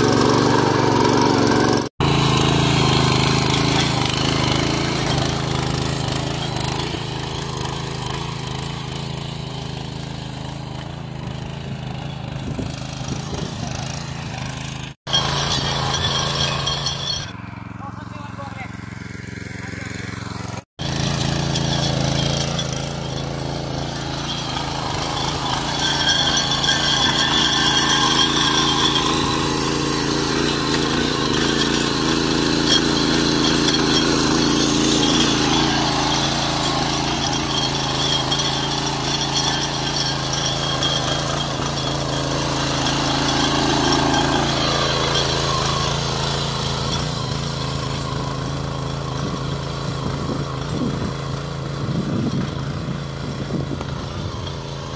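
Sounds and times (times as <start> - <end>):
power weeder engine running: 0.0 - 54.9.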